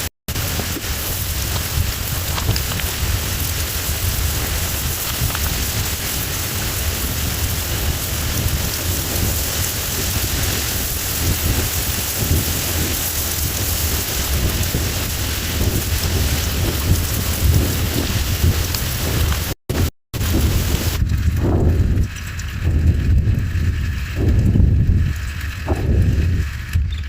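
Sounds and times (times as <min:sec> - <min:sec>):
heavy rain: 0:00.0 - 0:26.7
low thunder rumble: 0:00.3 - 0:27.0.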